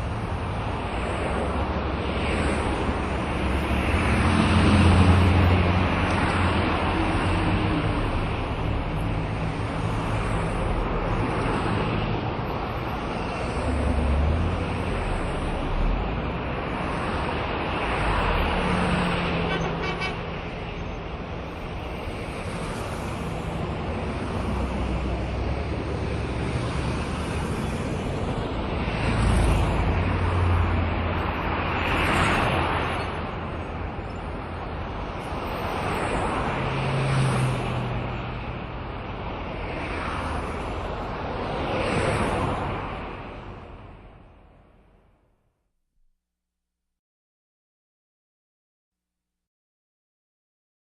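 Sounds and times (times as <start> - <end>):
cars passing: 0.0 - 44.9.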